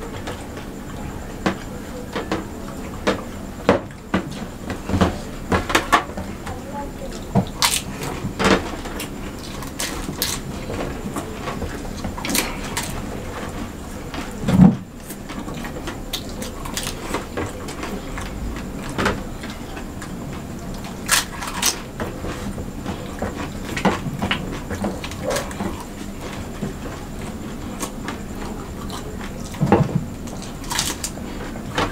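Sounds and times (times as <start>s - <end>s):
people chewing: 0.0s - 31.9s.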